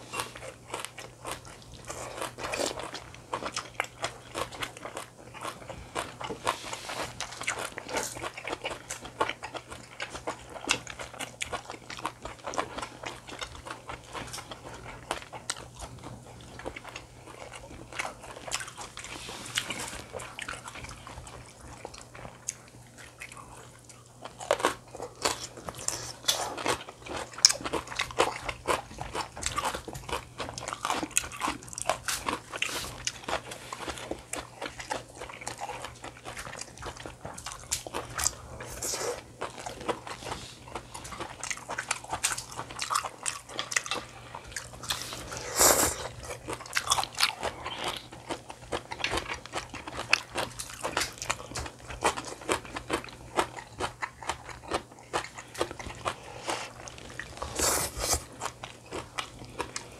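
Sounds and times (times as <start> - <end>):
crunching and chewing food: 0.0 - 59.9.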